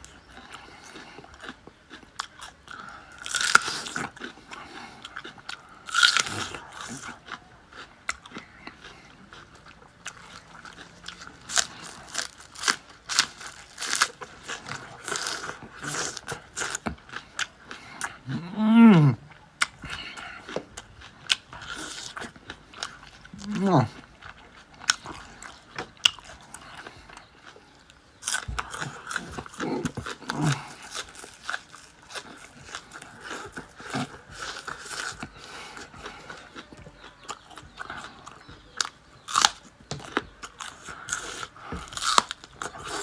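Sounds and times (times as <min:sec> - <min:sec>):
chewing crunchy food: 0:00.0 - 0:43.0.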